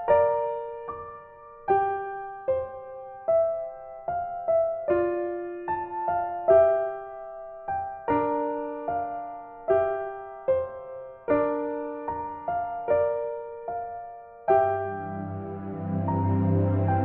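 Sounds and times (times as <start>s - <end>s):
soft piano tune: 0.0s - 17.0s.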